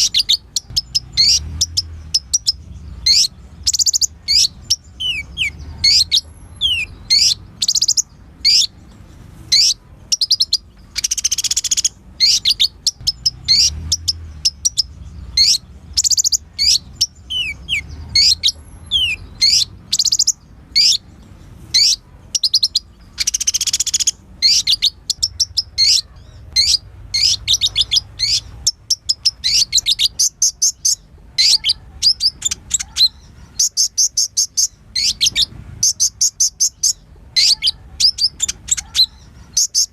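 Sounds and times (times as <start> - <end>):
bird singing high sharp chips: 0.0 - 39.9
buzzy bird trill: 0.0 - 39.9.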